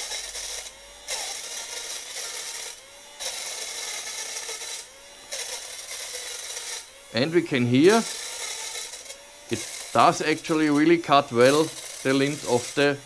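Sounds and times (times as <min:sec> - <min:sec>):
lint remover cutting: 0:00.0 - 0:13.0
lint remover motor hum: 0:00.0 - 0:13.0.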